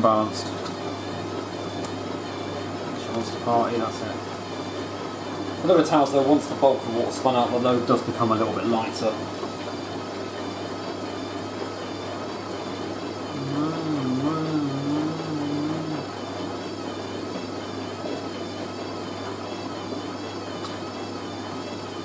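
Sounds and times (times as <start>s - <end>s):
washing machine motor spinning: 0.0s - 22.0s.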